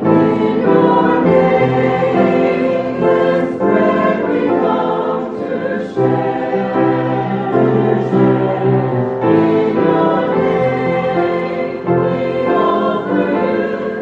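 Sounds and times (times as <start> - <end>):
choir singing: 0.0 - 14.0.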